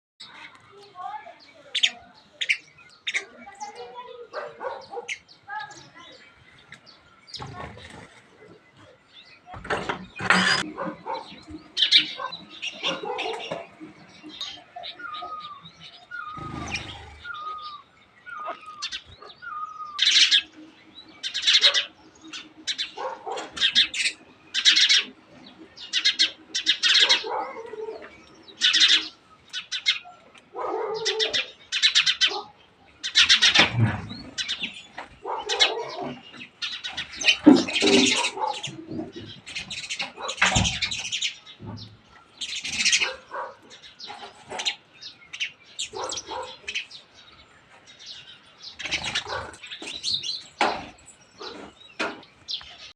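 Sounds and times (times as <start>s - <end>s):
birds chirping harshly: 0.2s - 52.9s.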